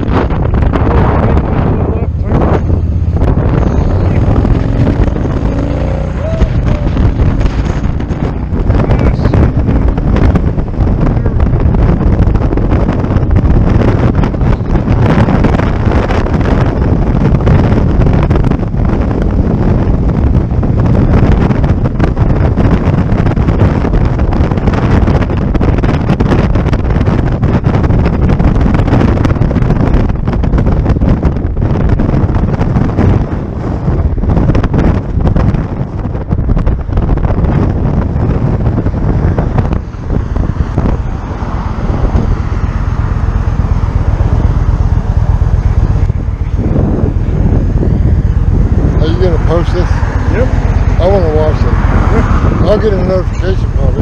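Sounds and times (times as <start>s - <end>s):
motorcycle riding at speed: 0.0s - 54.0s
wind buffeting microphone: 0.0s - 54.0s.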